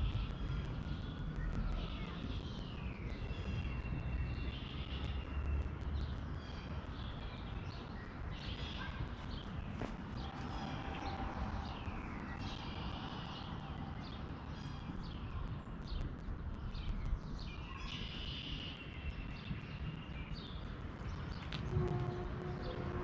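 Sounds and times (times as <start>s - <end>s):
low background rumble: 0.0s - 23.0s
songbirds chirping and singing: 0.0s - 23.0s.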